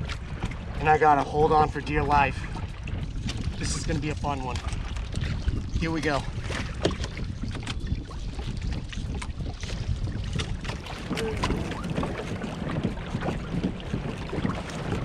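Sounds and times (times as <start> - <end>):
small clicks and splashes: 0.0 - 15.0
water lapping against kayak: 0.0 - 15.0
wind on microphone: 0.0 - 15.0.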